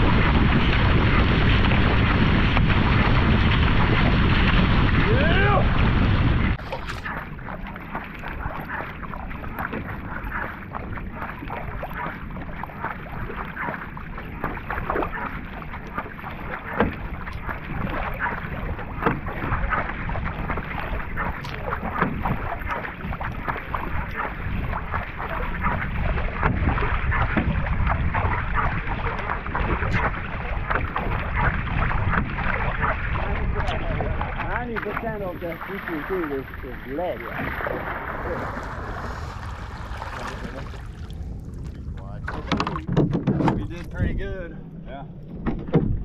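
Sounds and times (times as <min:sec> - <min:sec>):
paddle splashing water: 0:00.0 - 0:46.0
water rushing along hull: 0:00.0 - 0:46.0.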